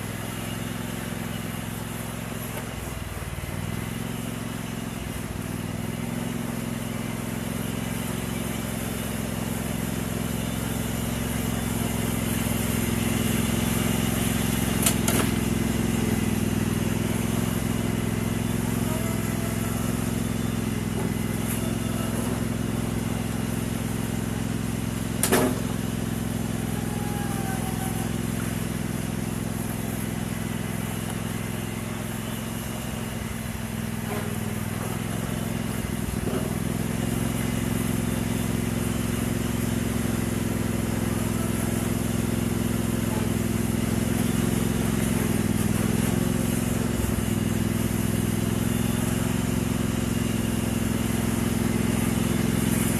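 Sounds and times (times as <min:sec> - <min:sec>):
lawn tractor engine running: 0:00.0 - 0:52.9.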